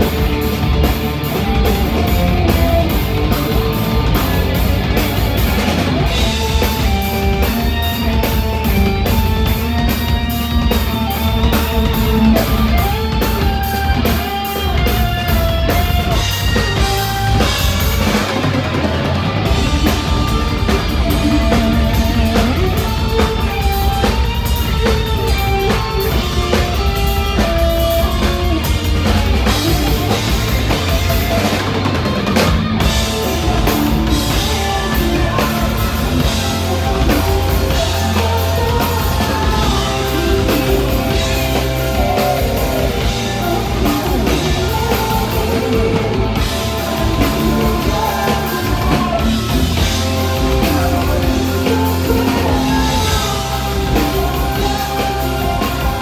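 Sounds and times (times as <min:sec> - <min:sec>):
distorted electric guitar leads: 0:00.0 - 0:56.0
live heavy metal band: 0:00.0 - 0:56.0
pounding drum kit: 0:00.0 - 0:56.0.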